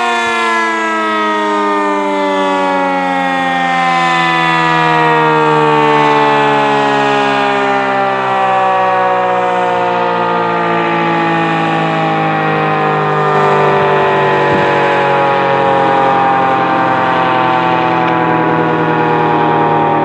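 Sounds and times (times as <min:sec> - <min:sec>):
loud steady siren tone: 0:00.0 - 0:20.0.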